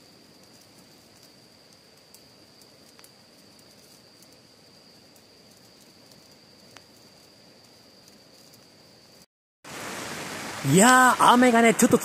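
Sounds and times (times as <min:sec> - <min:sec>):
wood fire crackling: 0:00.0 - 0:09.9
low hiss: 0:00.0 - 0:12.0.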